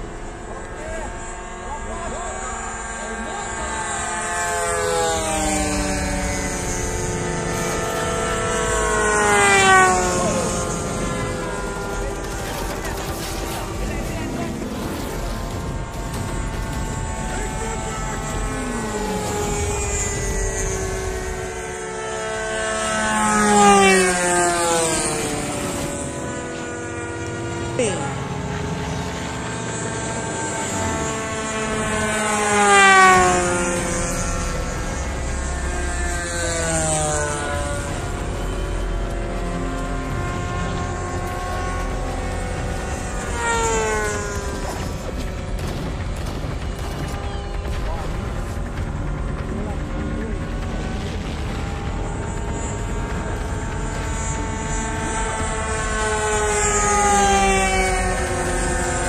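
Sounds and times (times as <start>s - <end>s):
model plane engines droning: 0.0s - 59.0s
plane passing overhead: 0.0s - 59.0s.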